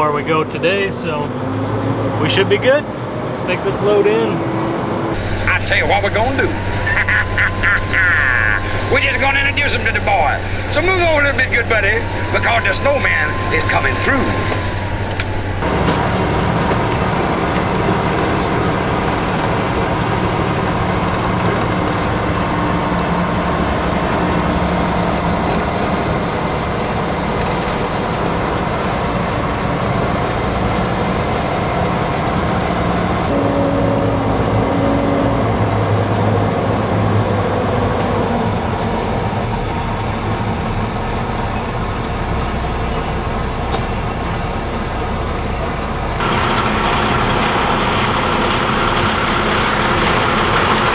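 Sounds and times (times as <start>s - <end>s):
truck diesel engine driving: 0.0s - 50.9s.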